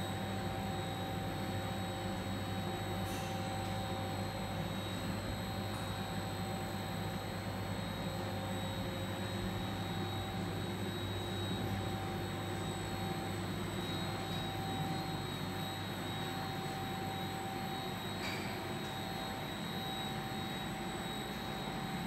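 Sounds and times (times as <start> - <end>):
machine hum and whine: 0.0 - 22.0.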